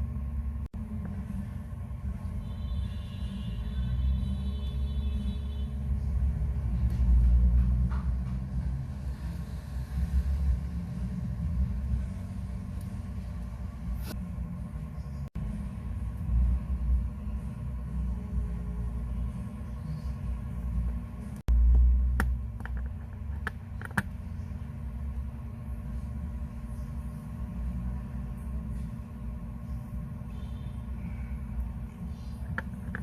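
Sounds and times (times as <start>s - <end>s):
faint hum: 0.0s - 33.0s
steady low rumble: 0.0s - 33.0s.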